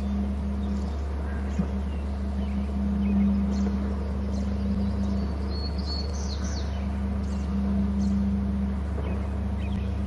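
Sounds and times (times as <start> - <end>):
bird chirps: 0.0 - 8.4, 9.0 - 10.0
drone: 0.0 - 10.0
low hum: 0.0 - 10.0.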